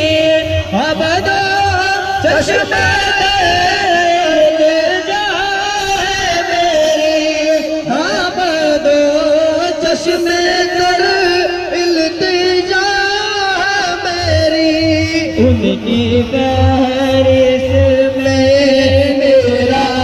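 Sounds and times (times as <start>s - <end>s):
men singing devotional song: 0.0s - 20.0s.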